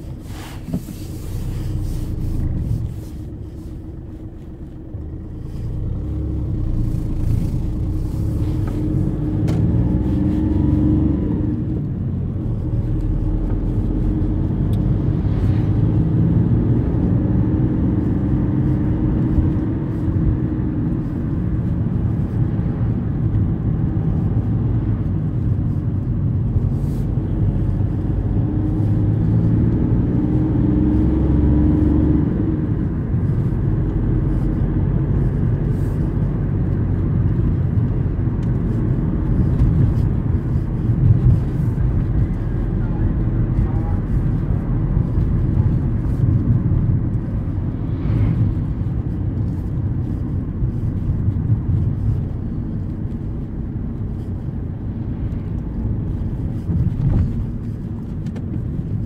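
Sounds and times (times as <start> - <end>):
car engine accelerating: 0.0 - 59.0
road noise inside car: 0.0 - 59.0.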